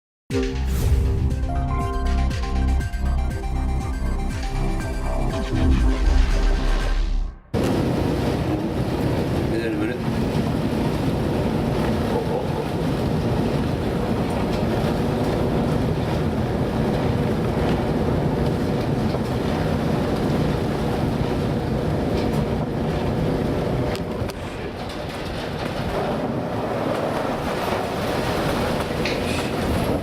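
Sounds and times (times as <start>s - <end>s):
boat rumbling in heavy seas: 3.0s - 30.0s.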